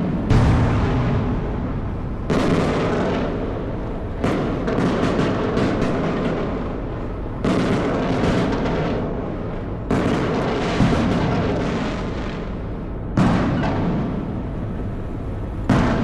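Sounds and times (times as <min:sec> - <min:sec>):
fireworks bursting and crackling: 0:00.0 - 0:14.8, 0:15.4 - 0:16.0.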